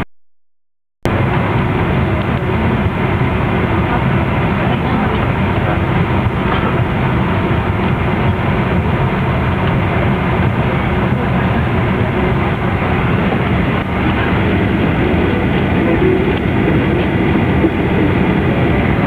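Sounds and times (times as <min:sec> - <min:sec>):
airliner cabin rumble and hiss: 0:01.1 - 0:19.0.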